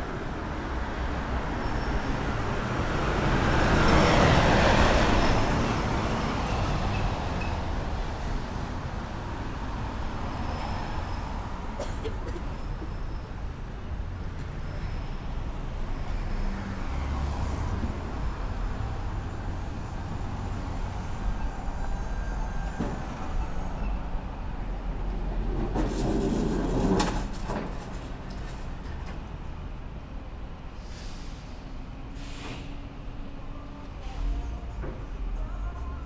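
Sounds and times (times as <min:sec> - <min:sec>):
traffic engine rumble: 0:00.0 - 0:36.0.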